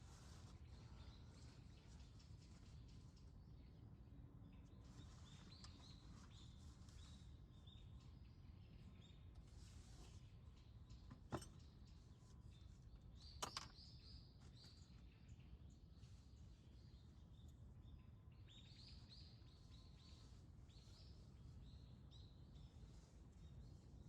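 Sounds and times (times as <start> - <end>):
low outdoor hum: 0.0 - 24.0
small birds chirping: 0.0 - 24.0.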